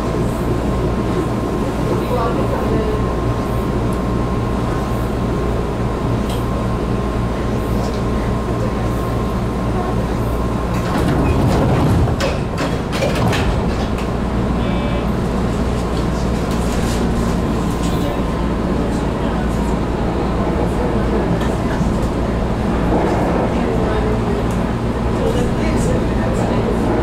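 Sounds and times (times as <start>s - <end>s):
train equipment humming: 0.0s - 27.0s.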